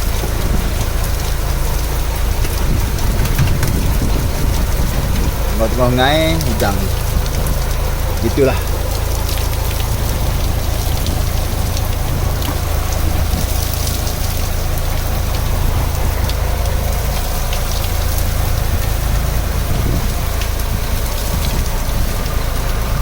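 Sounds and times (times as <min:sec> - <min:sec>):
low rumble: 0:00.0 - 0:23.0
rain pattering: 0:00.0 - 0:23.0.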